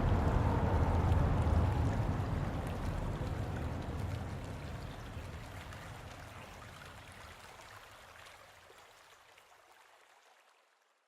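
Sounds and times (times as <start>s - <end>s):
flowing water rushing: 0.0s - 10.7s.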